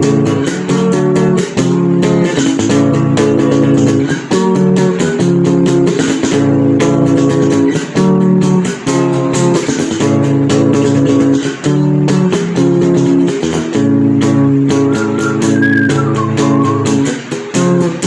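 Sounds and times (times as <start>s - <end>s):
guitar strumming chords: 0.0s - 18.0s.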